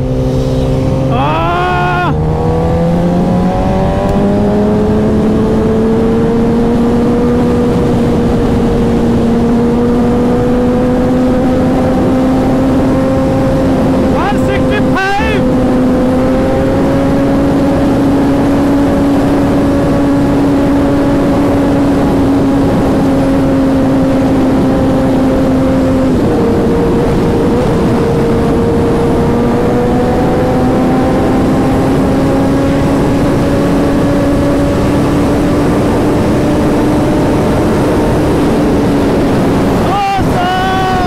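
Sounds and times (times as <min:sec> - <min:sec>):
motorcycle engine cruising: 0:00.0 - 0:41.0
wind rush: 0:00.0 - 0:41.0.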